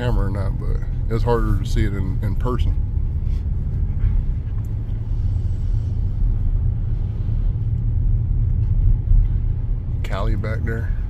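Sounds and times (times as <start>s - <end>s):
car engine rumble inside cabin: 0.0s - 11.0s
tyre noise on snowy road: 0.0s - 11.0s.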